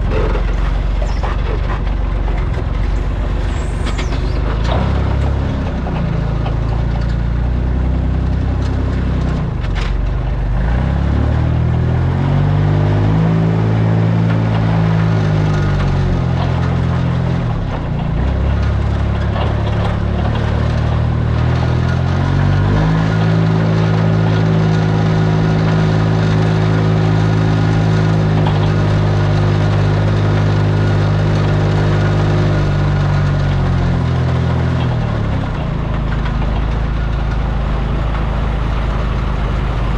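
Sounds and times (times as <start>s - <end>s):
truck engine shifting gears: 0.0s - 39.9s.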